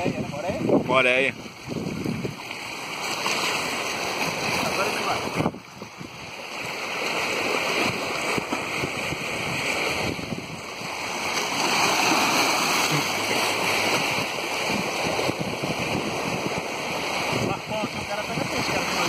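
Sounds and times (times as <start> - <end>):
waves splashing over rocks: 0.0 - 19.0.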